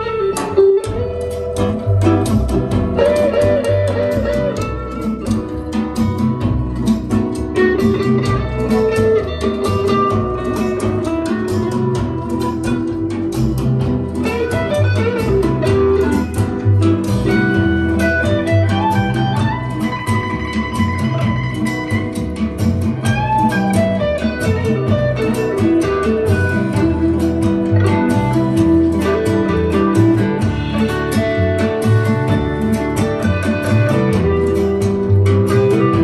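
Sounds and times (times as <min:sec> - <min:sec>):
plucked guitar: 0:00.0 - 0:36.0.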